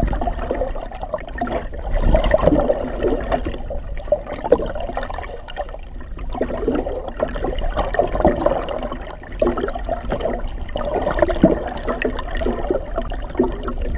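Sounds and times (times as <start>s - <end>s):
muffled underwater water rushing: 0.0s - 13.9s.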